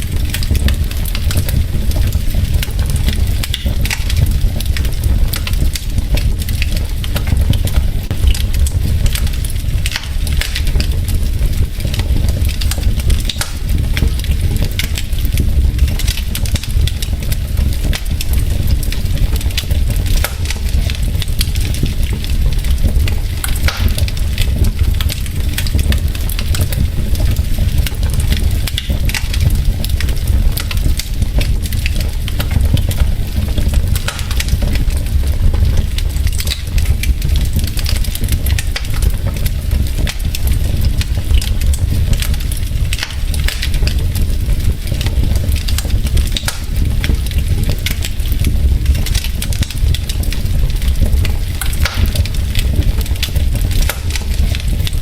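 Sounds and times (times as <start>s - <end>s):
logs crackling and popping: 0.0s - 55.0s
low rumble of fire: 0.0s - 55.0s.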